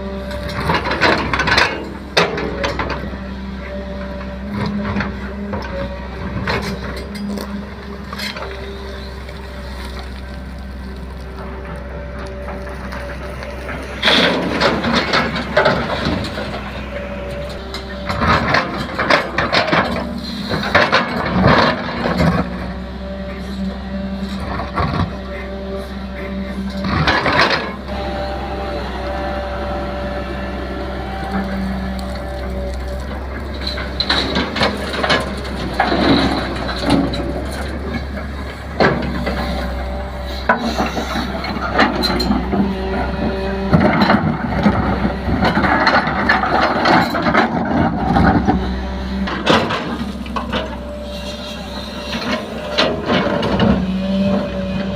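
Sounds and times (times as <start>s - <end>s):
diesel engine running: 0.0s - 54.9s
machine scraping and clattering: 0.0s - 54.9s.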